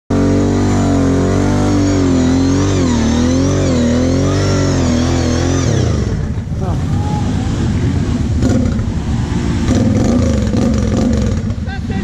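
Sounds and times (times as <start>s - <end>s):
quad bike engine revving: 0.1s - 12.0s.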